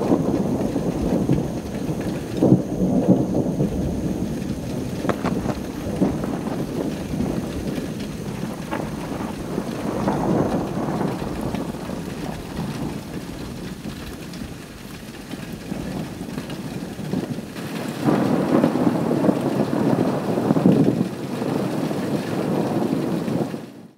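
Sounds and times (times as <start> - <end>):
steady rain: 0.0 - 23.9
thunder rumbling: 0.0 - 23.9.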